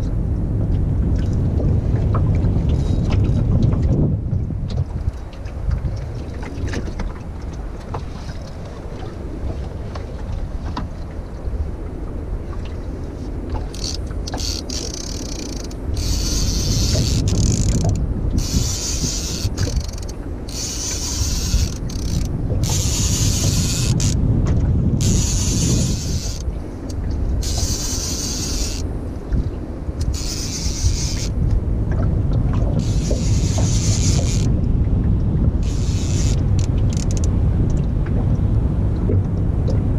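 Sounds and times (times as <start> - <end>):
boat engine rumble: 0.0 - 39.9
wind buffeting microphone: 0.0 - 39.9.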